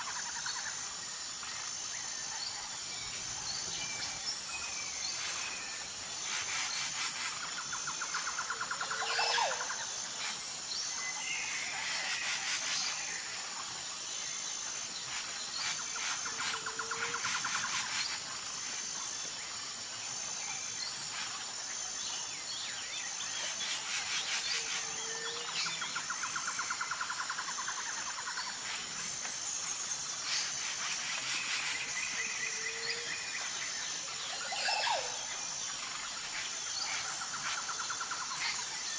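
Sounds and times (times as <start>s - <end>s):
high insect buzz: 0.0s - 38.9s.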